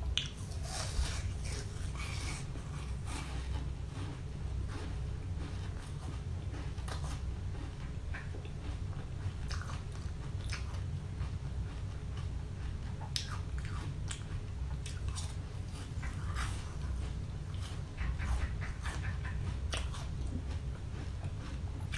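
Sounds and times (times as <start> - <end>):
steady low hum: 0.0 - 21.9
ice crunching being chewed: 0.2 - 21.9.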